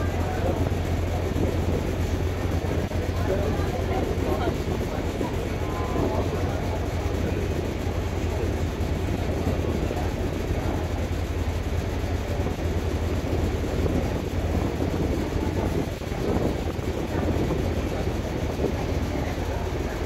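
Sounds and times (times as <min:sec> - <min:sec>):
ferry engine droning: 0:00.0 - 0:20.0
rushing water: 0:00.0 - 0:20.0
rushing wind: 0:00.0 - 0:20.0.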